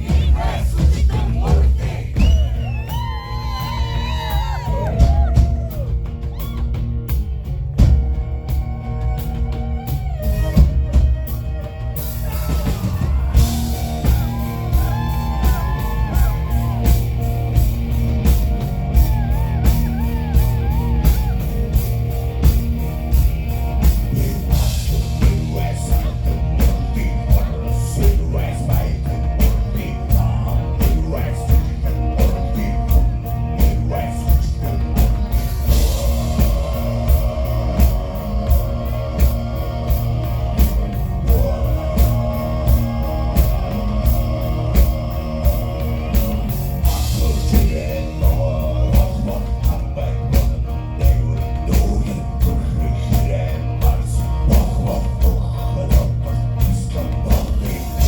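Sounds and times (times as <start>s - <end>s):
heavy drum-kit beat: 0.0s - 58.0s
low guitars: 0.0s - 58.0s.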